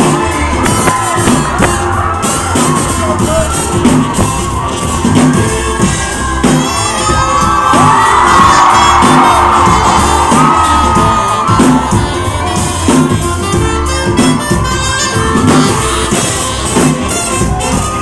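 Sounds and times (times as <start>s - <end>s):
crowd shouting and whooping: 0.0s - 18.0s
live pop-punk band: 0.0s - 18.0s
loud drums: 0.0s - 18.0s.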